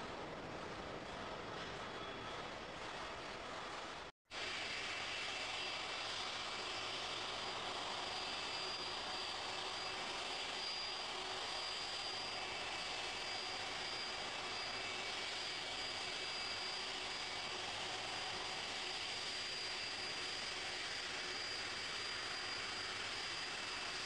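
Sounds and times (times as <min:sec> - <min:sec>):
high-pitched engine whine: 0:00.0 - 0:24.0.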